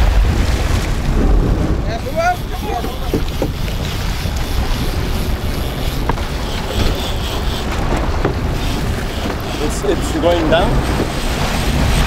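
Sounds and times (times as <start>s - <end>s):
boat engine rumbling: 0.0s - 12.0s
wind buffeting microphone: 0.0s - 12.0s.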